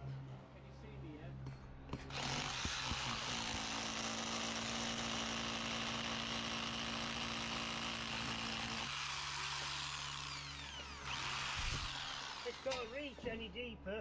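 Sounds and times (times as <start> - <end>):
hammer drill boring through stone: 2.0 - 13.3.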